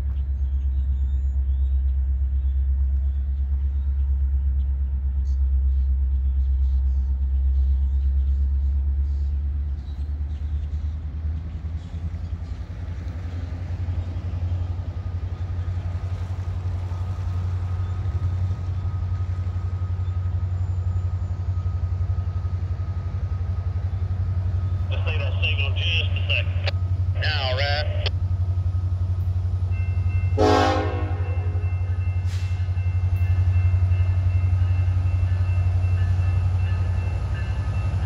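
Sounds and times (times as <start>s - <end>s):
locomotive engine rumble: 0.0s - 38.0s.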